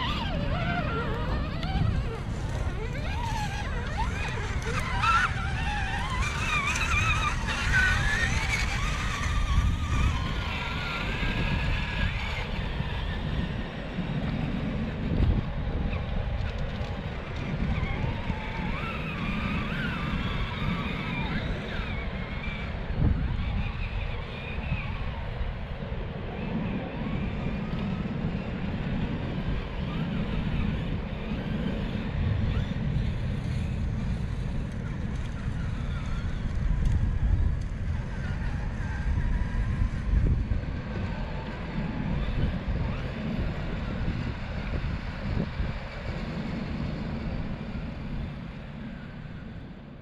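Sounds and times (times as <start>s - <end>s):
electric motors whining: 0.0s - 50.0s
wind rumble on microphone: 0.0s - 50.0s.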